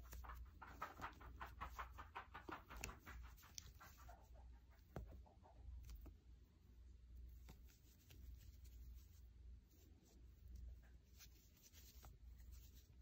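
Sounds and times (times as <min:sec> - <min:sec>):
crochet hook rustling yarn: 0:00.0 - 0:13.0.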